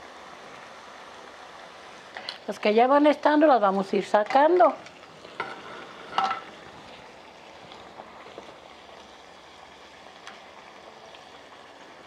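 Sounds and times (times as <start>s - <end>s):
frying in hot oil sizzling: 0.0s - 12.0s.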